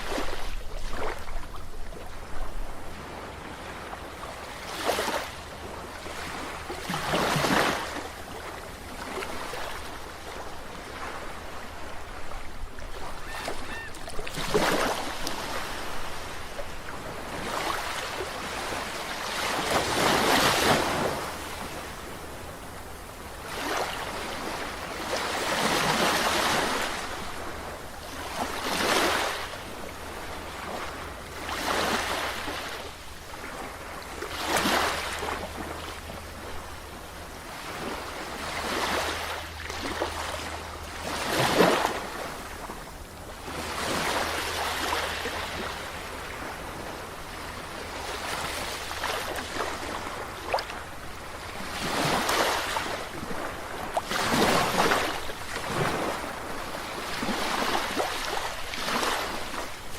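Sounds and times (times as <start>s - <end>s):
ocean waves washing in: 0.0s - 59.9s.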